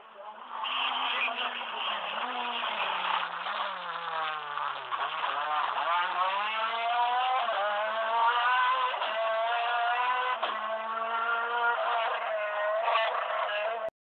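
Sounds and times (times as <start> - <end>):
rally car engine accelerating: 0.0 - 13.9.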